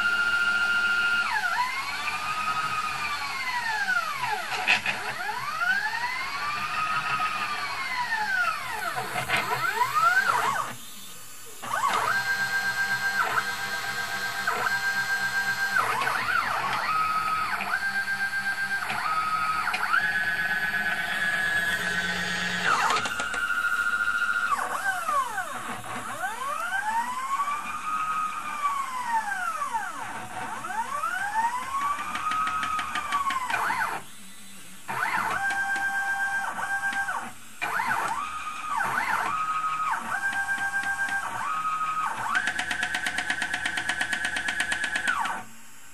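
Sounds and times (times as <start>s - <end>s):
stepper motors whining: 0.0s - 45.8s.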